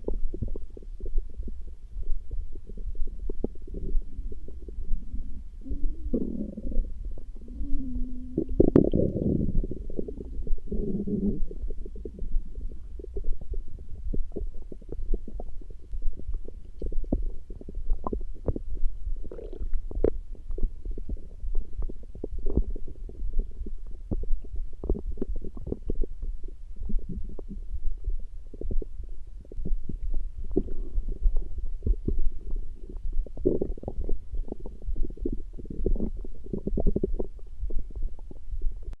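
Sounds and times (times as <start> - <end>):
stomach growling: 0.0 - 39.0.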